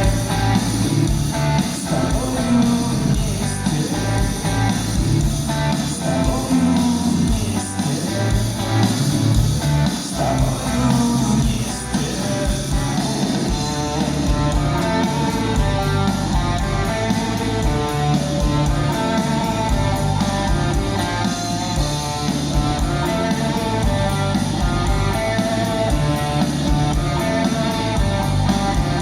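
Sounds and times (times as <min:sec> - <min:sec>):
bass guitar: 0:00.0 - 0:29.0
drums: 0:00.0 - 0:29.0.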